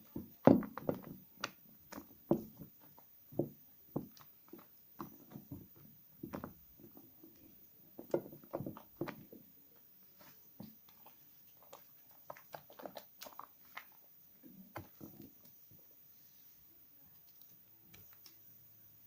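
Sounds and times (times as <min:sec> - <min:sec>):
soap squelching by hand: 0:00.2 - 0:15.9.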